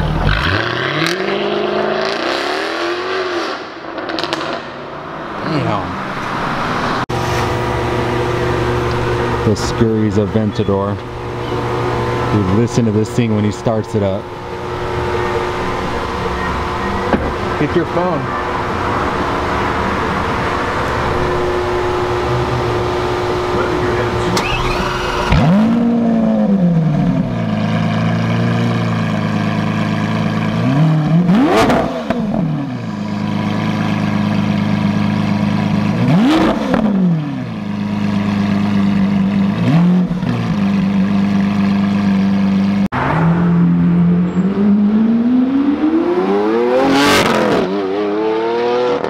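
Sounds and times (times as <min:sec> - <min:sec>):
car engine idling and revving: 0:00.0 - 0:49.0
car pulling away: 0:00.0 - 0:49.0.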